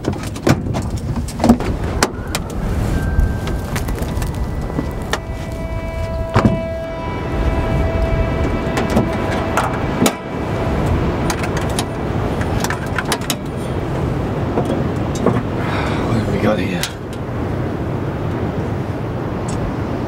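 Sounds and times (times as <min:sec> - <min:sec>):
steady low rumble: 0:00.6 - 0:20.0.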